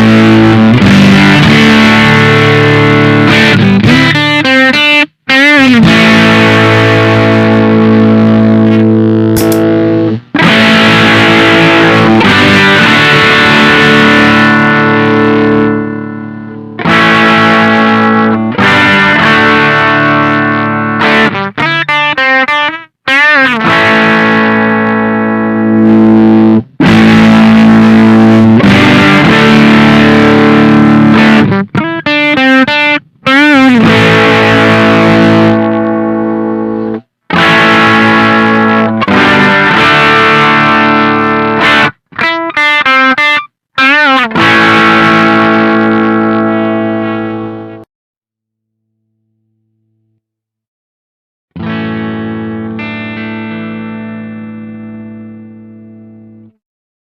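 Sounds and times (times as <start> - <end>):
distorted electric guitar chords: 0.0 - 47.9, 51.5 - 56.6
electric guitar riffs: 0.0 - 47.9, 51.5 - 56.6.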